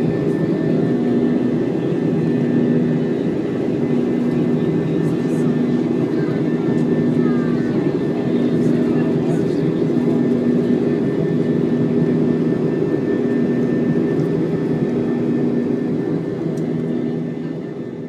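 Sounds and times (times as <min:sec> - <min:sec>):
jet engine drone in cabin: 0:00.0 - 0:18.0.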